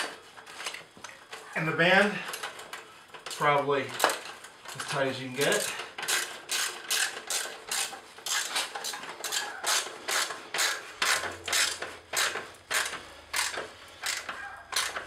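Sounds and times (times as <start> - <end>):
hand ratchet clicking: 2.3 - 15.0.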